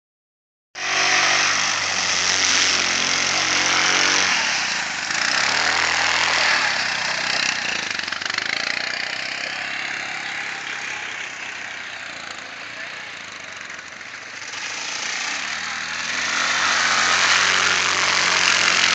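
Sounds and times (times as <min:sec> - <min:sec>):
quad bike engine driving past: 0:00.8 - 0:18.9.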